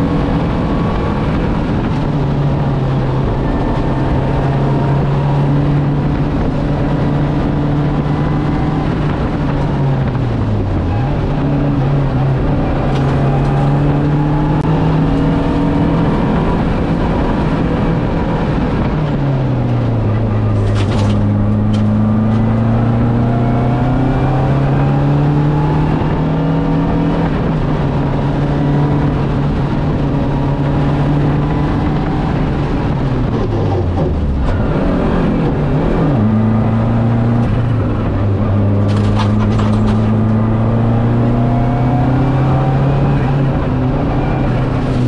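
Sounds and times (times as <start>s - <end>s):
turbocharged engine revving: 0.0s - 45.0s.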